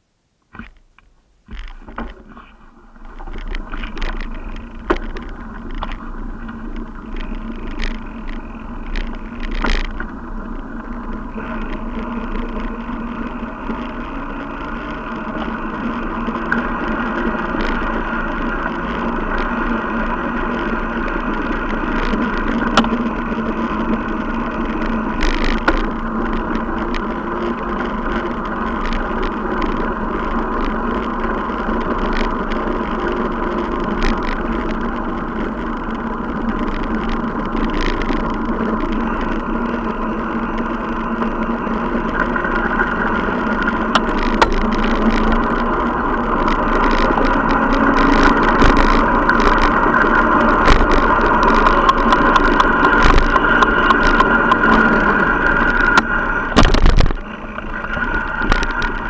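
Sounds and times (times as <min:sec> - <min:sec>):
bicycle tyre rumble: 0:00.0 - 0:59.0
constant hum: 0:00.0 - 0:59.0
sharp clicks and knocks: 0:00.4 - 0:18.0, 0:20.4 - 0:59.0.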